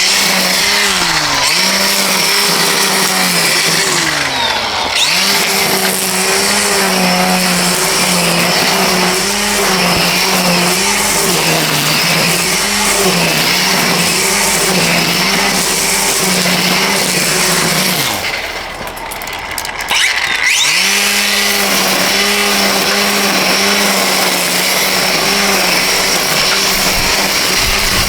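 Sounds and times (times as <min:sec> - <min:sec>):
string trimmer motor whine: 0:00.0 - 0:28.0.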